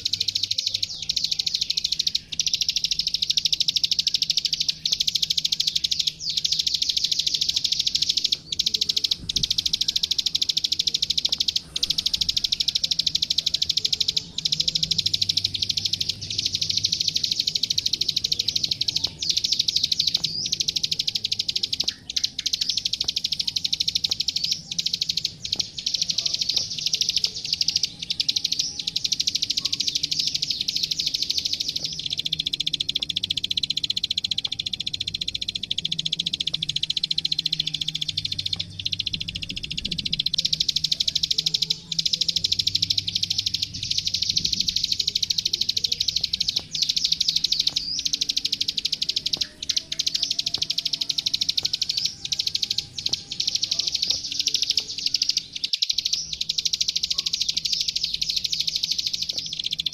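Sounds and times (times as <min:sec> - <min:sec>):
bird clicking trills: 0:00.0 - 0:59.9.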